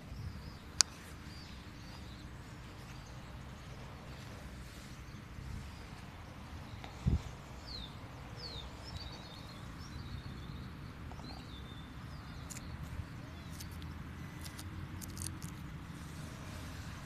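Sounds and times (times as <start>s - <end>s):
small birds calling: 0.0s - 17.0s
steady low rumble: 0.0s - 17.0s.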